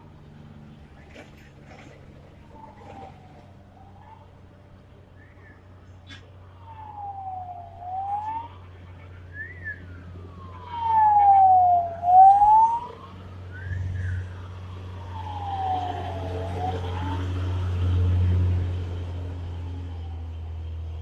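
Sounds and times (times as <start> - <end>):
engine idling hum: 0.0 - 21.0
vehicle siren wailing: 2.4 - 20.8.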